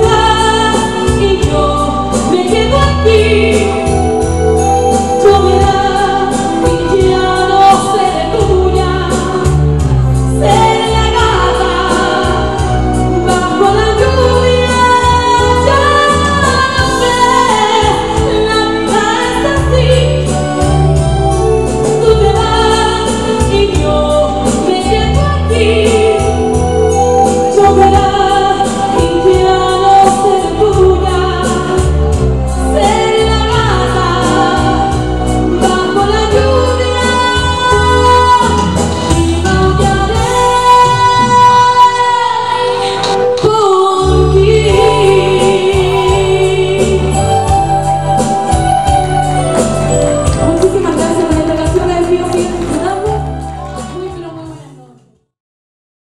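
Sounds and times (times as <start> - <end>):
steady bass line: 0.0 - 41.2, 44.1 - 54.8
woman singing into microphone: 0.0 - 55.1
instrumental backing: 0.0 - 55.2.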